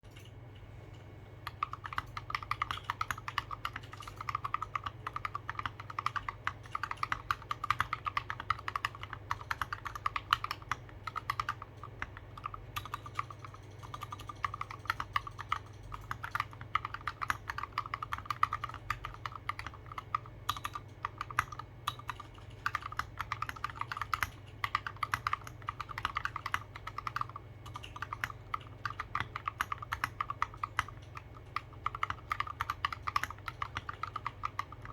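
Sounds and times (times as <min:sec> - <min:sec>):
mechanical keyboard typing clacks: 0:01.4 - 0:34.9.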